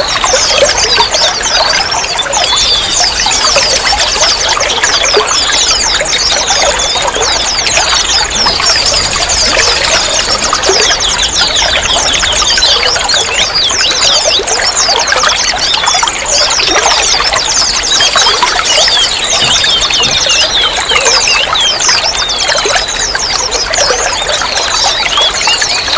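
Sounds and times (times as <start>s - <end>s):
water trickling and splashing: 0.0s - 25.9s.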